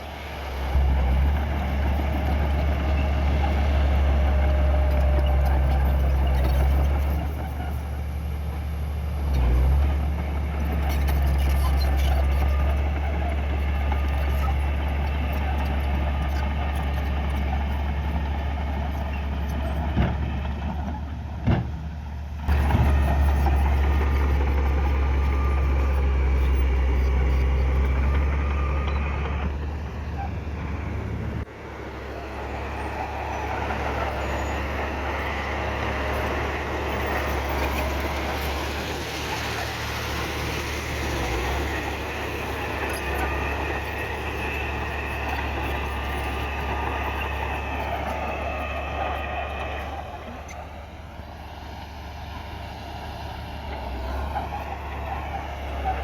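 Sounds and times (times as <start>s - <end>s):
heavy diesel machinery rumble: 0.0s - 56.0s.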